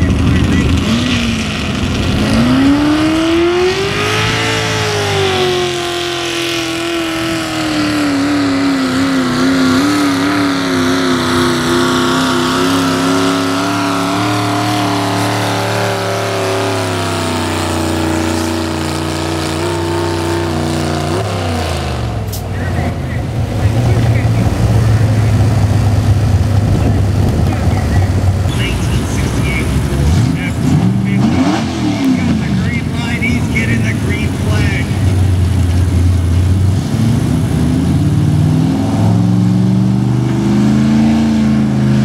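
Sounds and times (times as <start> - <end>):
truck engine running flat out: 0.0 - 42.0.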